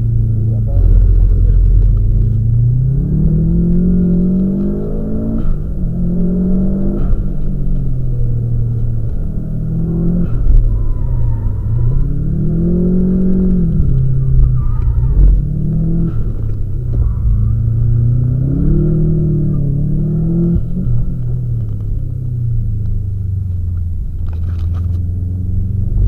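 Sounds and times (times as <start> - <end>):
car engine revving: 0.0 - 26.0
low rumble: 0.0 - 26.0.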